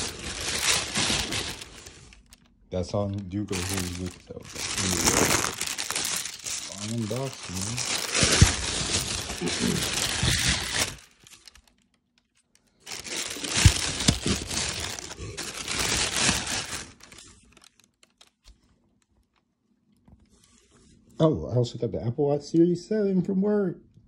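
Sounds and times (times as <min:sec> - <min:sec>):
plastic wrapping crinkling: 0:00.0 - 0:20.5.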